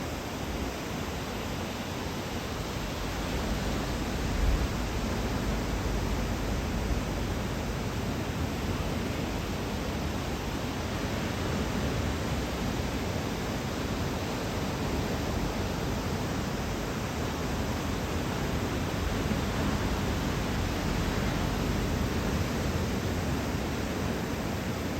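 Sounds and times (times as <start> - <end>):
ocean surf roaring: 2.8 - 24.9.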